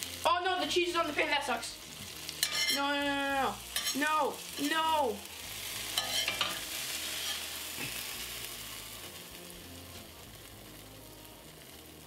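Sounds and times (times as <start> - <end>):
butter sizzling in a pan: 0.0 - 12.0.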